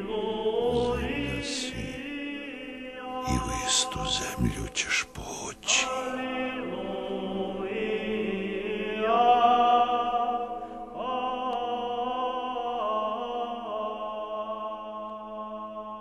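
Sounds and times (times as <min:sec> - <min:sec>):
choir chanting: 0:00.0 - 0:14.5.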